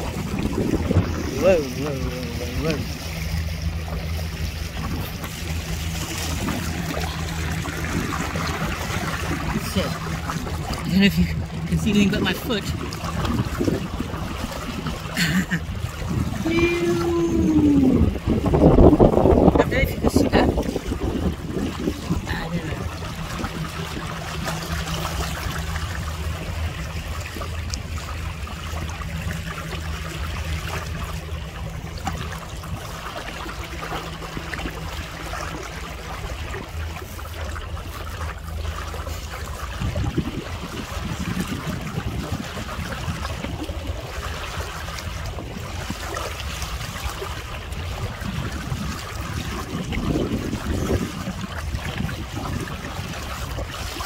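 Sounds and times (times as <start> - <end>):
low rumbles: 0.0 - 54.0
steady low hum: 0.0 - 54.0
water splashing against kayak: 0.0 - 54.0.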